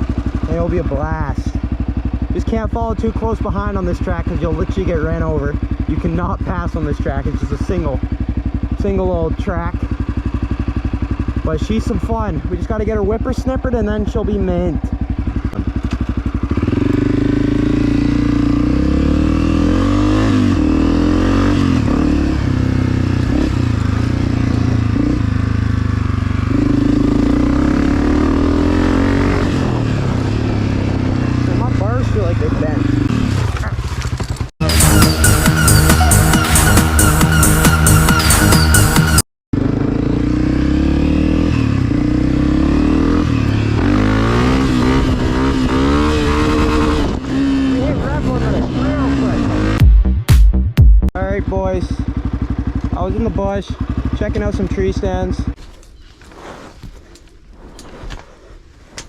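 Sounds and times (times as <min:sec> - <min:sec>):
motorcycle engine revving: 0:00.0 - 0:55.6.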